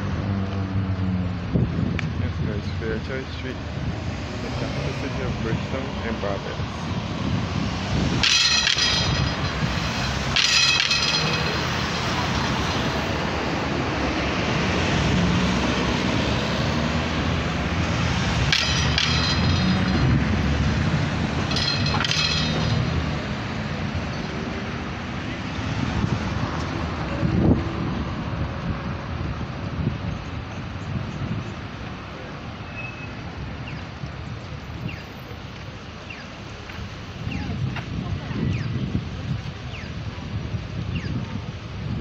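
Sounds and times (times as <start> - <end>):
cars driving past: 0.0 - 35.8.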